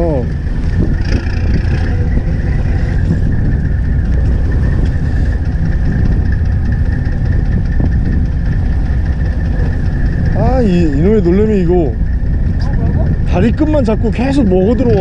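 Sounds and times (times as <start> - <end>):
boat engine rumble: 0.0 - 15.0
thin steady whine: 0.0 - 15.0.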